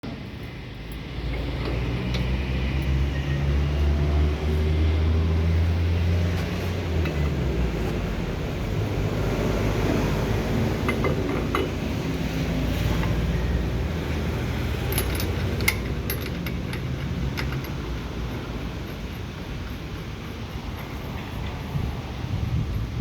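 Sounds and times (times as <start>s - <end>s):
brake lathe humming: 0.2s - 21.6s.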